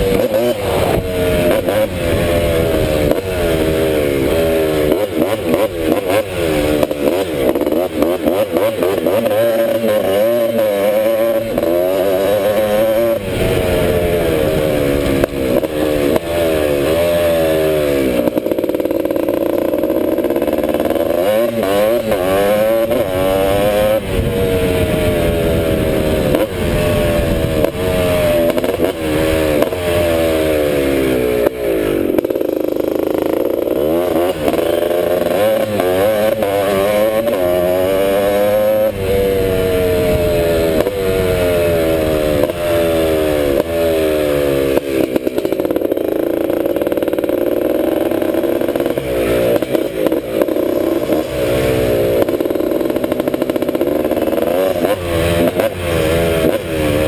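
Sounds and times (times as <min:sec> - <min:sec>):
two-stroke engine revving: 0:00.0 - 0:57.0.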